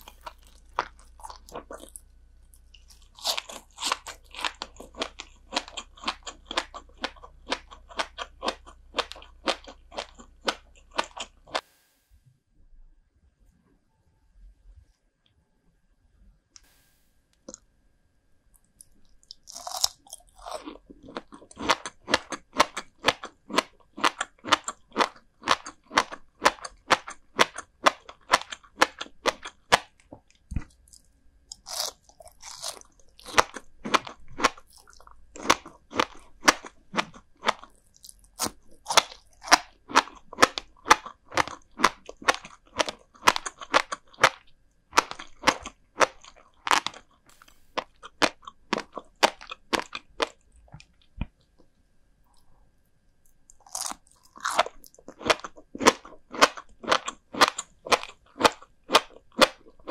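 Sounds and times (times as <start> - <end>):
crisp chewing crunches: 0.0 - 11.6, 18.6 - 51.4, 53.2 - 59.9.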